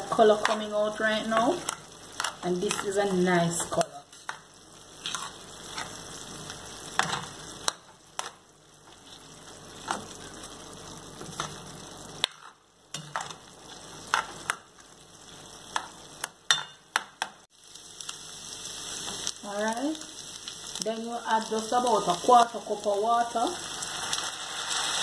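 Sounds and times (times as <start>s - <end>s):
meat frying in a pan: 0.0s - 25.0s.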